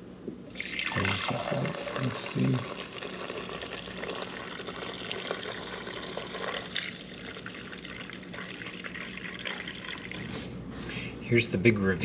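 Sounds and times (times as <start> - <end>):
liquid pouring into plastic tray: 0.5 - 10.3.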